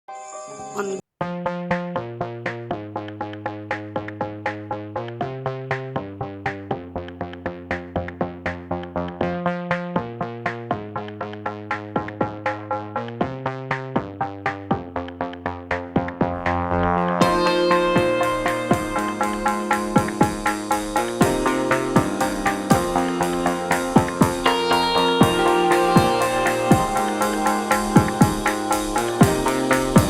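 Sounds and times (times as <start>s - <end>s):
electronic music with steady beat: 1.7s - 30.0s.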